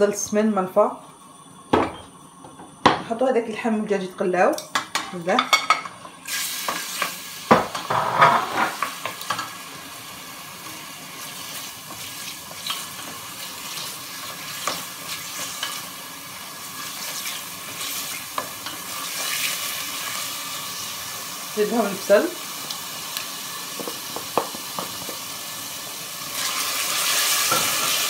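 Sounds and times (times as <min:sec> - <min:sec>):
meat sizzling in oil: 0:05.3 - 0:28.0.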